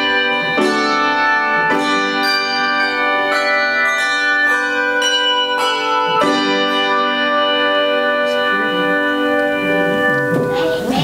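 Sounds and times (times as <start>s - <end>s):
handbell choir playing: 0.0s - 11.0s.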